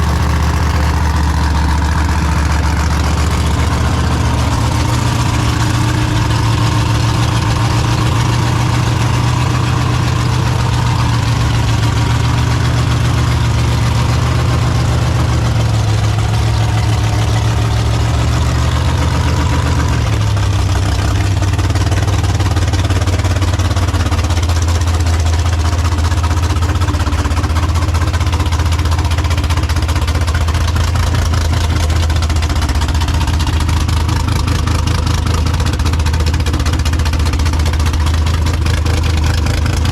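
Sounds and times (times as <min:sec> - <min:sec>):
car engine idling with exhaust rumble: 0:00.0 - 0:39.9.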